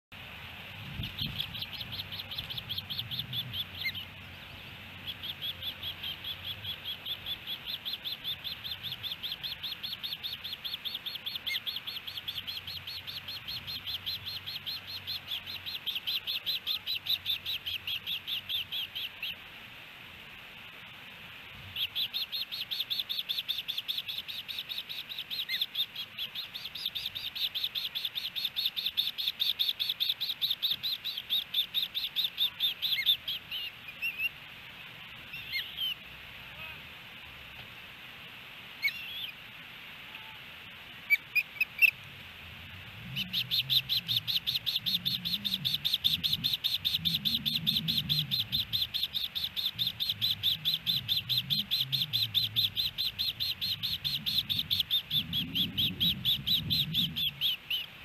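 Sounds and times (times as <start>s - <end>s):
ospreys chirping: 0.5s - 19.5s, 21.4s - 36.8s, 38.8s - 39.4s, 40.9s - 58.0s.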